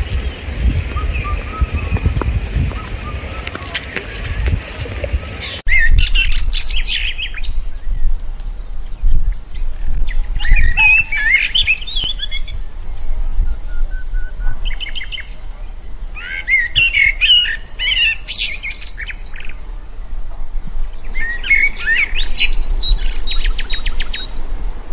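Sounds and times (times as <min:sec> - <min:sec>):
birds chirping and warbling: 0:00.0 - 0:20.0, 0:20.8 - 0:24.9.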